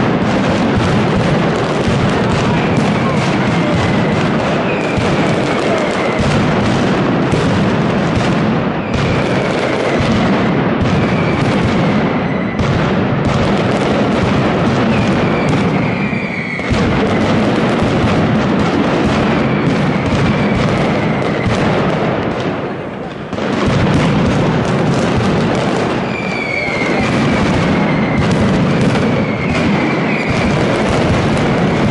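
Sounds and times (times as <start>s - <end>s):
firecrackers rapid bangs: 0.0s - 31.9s.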